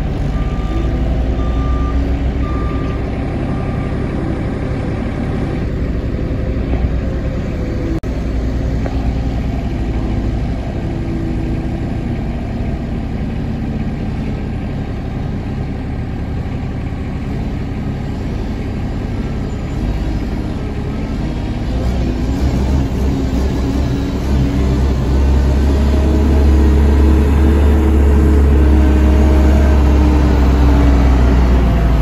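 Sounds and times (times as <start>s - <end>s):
forklift engine running: 0.0s - 32.0s.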